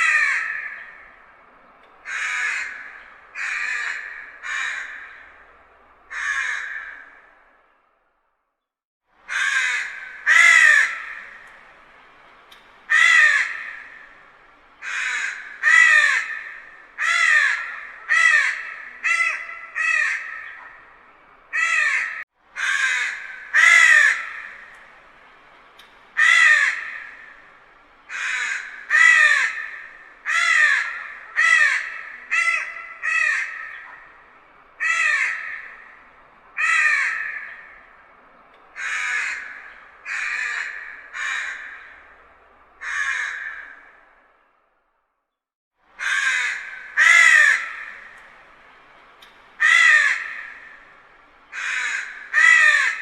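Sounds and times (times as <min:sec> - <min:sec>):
distant crow cawing: 0:00.0 - 0:07.7, 0:09.3 - 0:44.5, 0:46.0 - 0:53.0.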